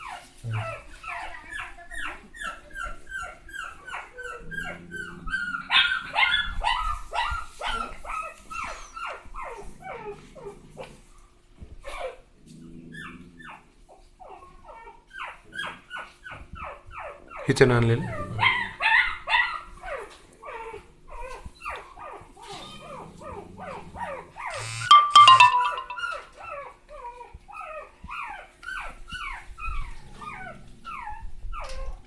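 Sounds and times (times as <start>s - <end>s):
puppies whining and yipping: 0.0s - 10.9s, 12.9s - 32.0s.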